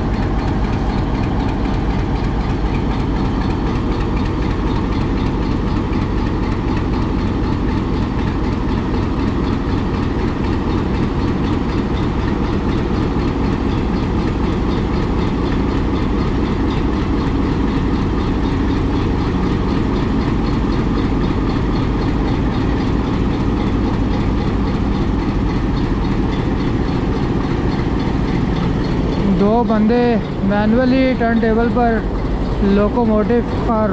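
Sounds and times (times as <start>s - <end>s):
diesel locomotive idling: 0.0s - 33.9s.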